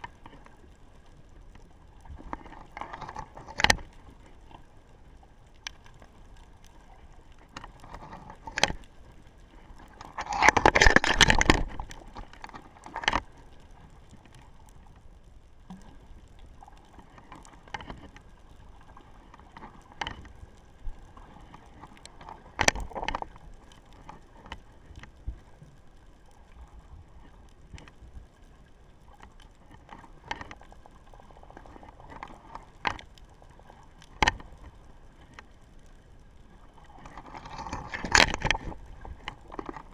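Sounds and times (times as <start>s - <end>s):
underwater clicks and knocks: 0.0s - 0.8s, 1.5s - 15.1s, 15.7s - 25.7s, 29.1s - 36.0s, 36.6s - 39.9s.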